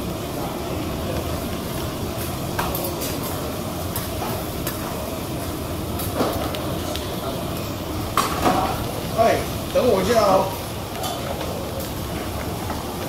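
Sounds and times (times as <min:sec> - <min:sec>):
food frying on a griddle: 0:00.0 - 0:13.0
steady background hum: 0:00.0 - 0:13.0.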